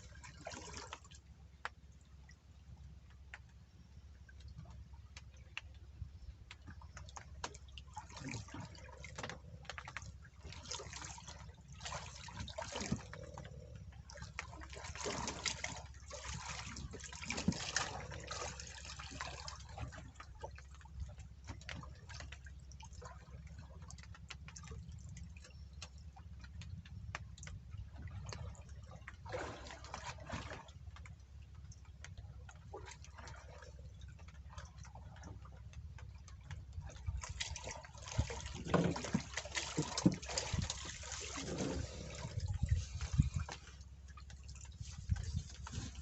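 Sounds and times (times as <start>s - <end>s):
water splashing and sloshing: 0.0s - 46.0s.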